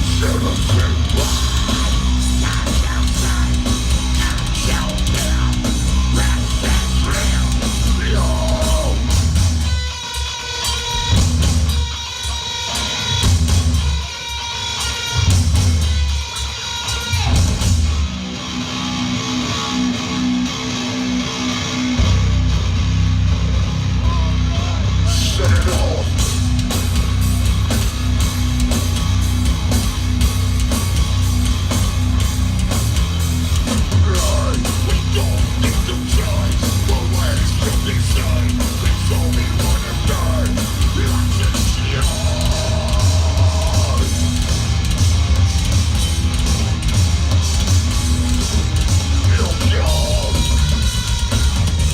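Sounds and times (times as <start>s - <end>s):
bass guitar: 0.0s - 51.9s
distorted electric guitar riffing: 0.0s - 51.9s
drums: 0.0s - 51.9s.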